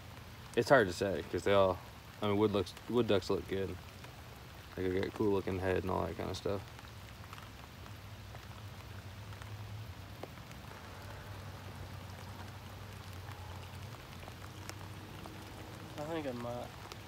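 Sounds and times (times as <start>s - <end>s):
faint drip ticks: 0.0s - 17.0s
steady rain: 0.0s - 17.0s.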